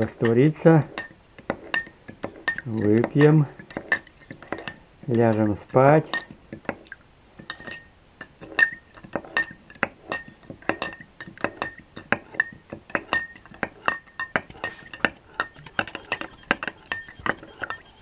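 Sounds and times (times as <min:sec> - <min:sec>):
spoon clinking in a mug: 0:00.1 - 0:06.6, 0:07.4 - 0:17.9.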